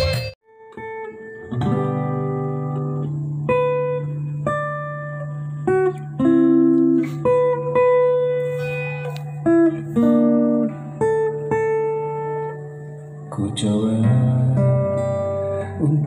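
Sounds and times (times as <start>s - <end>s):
guitar plucking slow melody: 0.0s - 16.0s.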